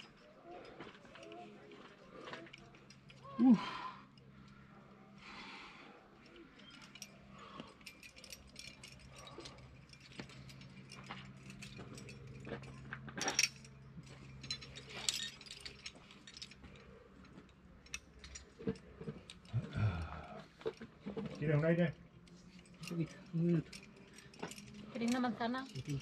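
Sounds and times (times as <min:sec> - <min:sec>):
climbing hardware clinking: 0:00.0 - 0:04.8, 0:06.2 - 0:26.0.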